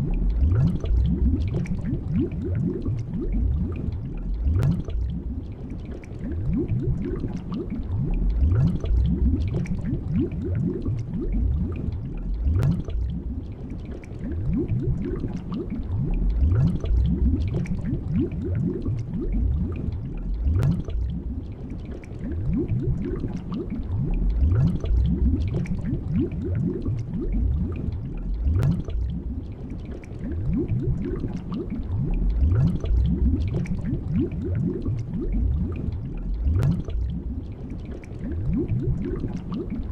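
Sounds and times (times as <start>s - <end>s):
underwater bubbles gurgling: 0.0s - 39.9s.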